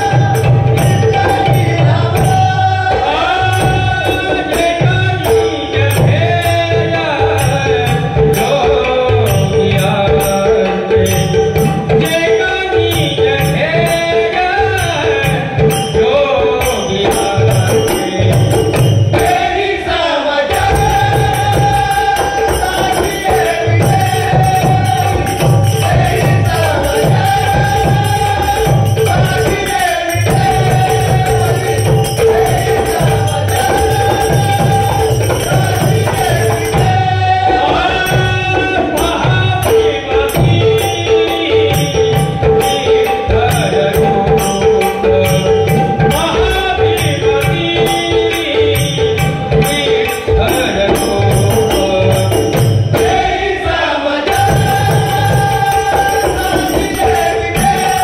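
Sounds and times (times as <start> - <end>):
men singing devotional song: 0.0 - 58.0
hand cymbals clashing: 9.3 - 58.0.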